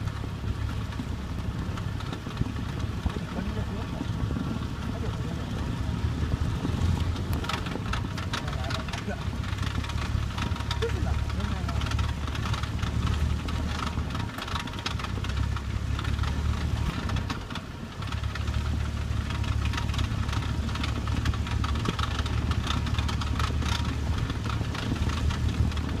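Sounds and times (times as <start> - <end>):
car engine idling hum: 0.0 - 26.0
rapid clicking rattle: 0.0 - 26.0.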